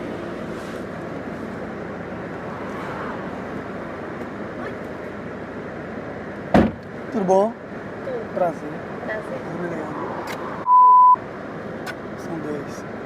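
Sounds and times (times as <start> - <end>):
low rumble of street traffic: 0.0 - 13.0.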